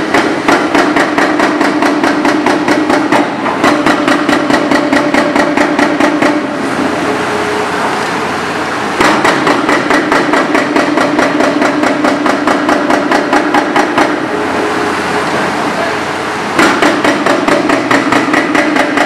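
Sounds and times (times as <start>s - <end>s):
hydraulic breaker hammering: 0.0s - 7.1s, 9.0s - 19.0s
excavator engine drone: 0.0s - 19.0s.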